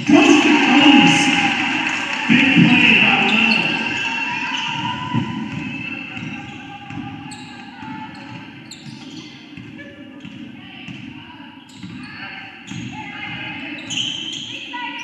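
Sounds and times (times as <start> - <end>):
crowd cheering in gym: 0.0 - 15.0.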